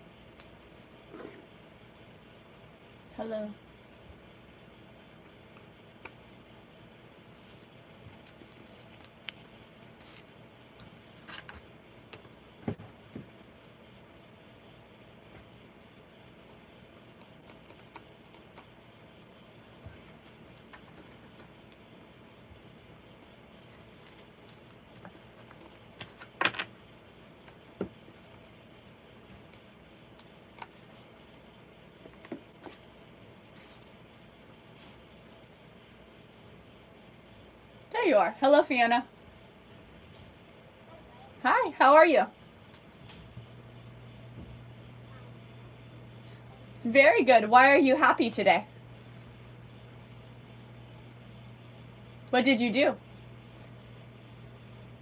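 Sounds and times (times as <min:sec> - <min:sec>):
faint room hum: 0:00.0 - 0:55.0.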